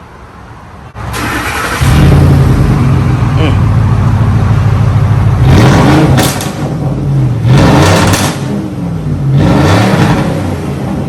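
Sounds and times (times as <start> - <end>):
engine revving: 1.1 - 11.0
exhaust popping: 1.2 - 11.0.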